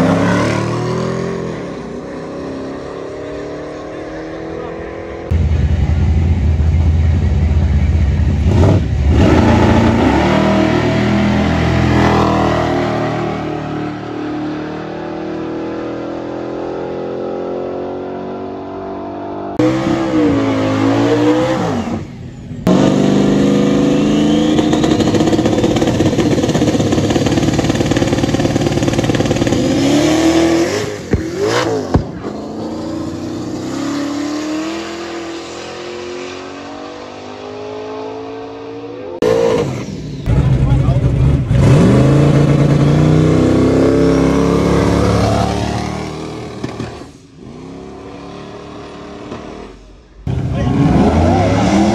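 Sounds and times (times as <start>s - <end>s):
drag car engines revving: 0.0s - 51.9s.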